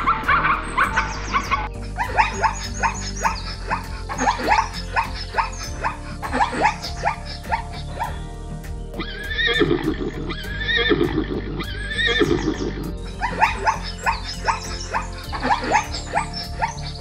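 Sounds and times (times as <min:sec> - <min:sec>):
zebras calling: 0:00.0 - 0:08.3, 0:09.0 - 0:17.0
background music: 0:00.0 - 0:17.0.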